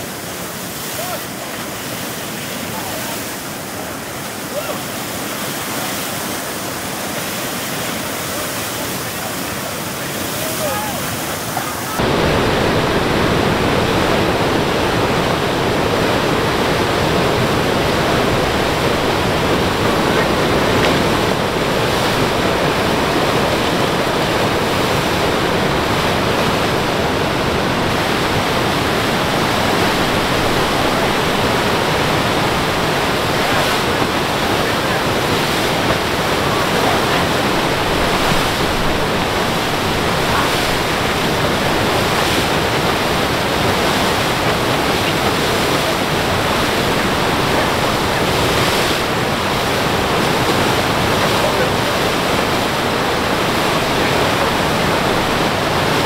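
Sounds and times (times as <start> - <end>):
river water rushing and churning: 0.0 - 56.0.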